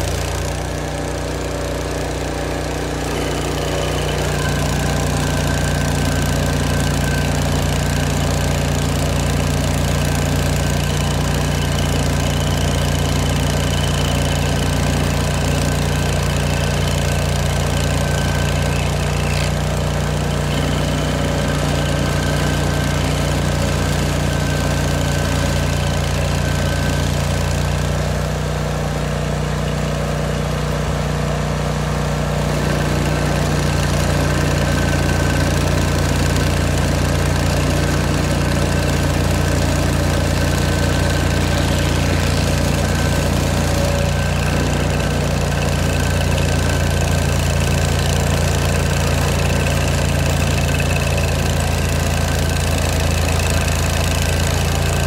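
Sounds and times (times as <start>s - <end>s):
stump grinder engine running: 0.0s - 55.0s.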